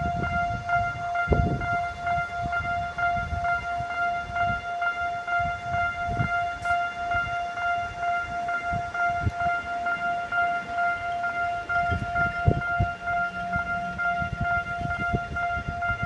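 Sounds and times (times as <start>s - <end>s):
railroad crossing bell ringing: 0.0s - 16.0s.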